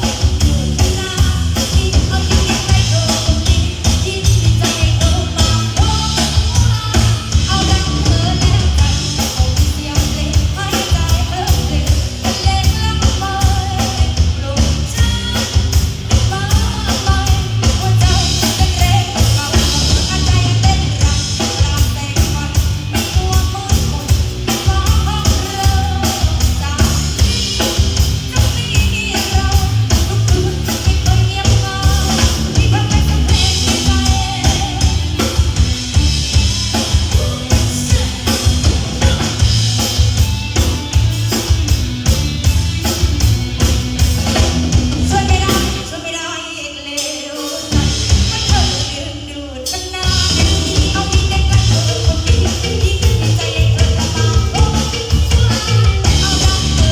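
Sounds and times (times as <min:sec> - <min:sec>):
person singing: 0:00.0 - 0:36.1, 0:36.7 - 0:42.2, 0:44.3 - 0:56.9
drum-kit beat: 0:00.0 - 0:46.0, 0:50.0 - 0:56.9
rock band playing: 0:00.0 - 0:56.9.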